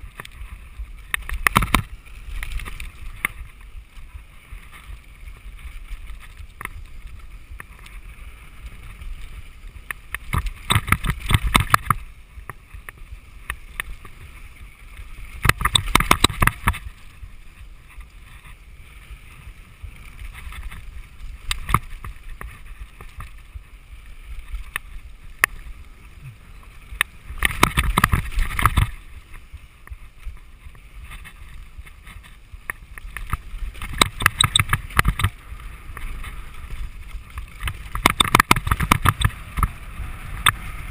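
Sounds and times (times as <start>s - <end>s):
bike clattering and rattling: 0.0s - 40.9s
bike tyres rumbling on dirt: 0.0s - 40.9s
wind on microphone: 0.0s - 40.9s.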